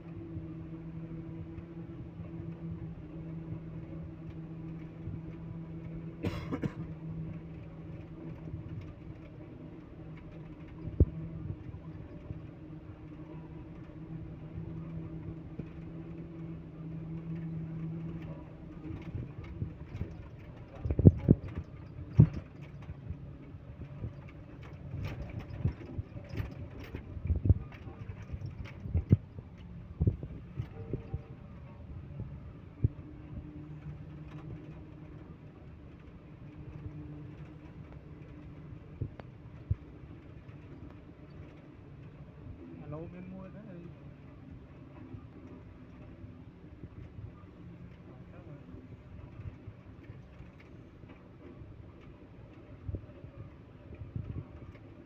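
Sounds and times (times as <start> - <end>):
heavy machine engine humming: 0.0 - 55.0.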